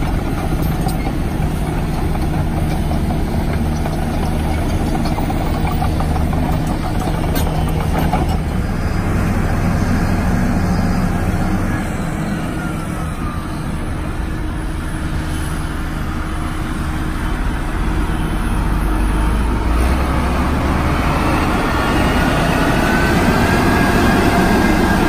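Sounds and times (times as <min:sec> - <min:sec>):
road roller diesel engine rumbling: 0:00.0 - 0:25.0.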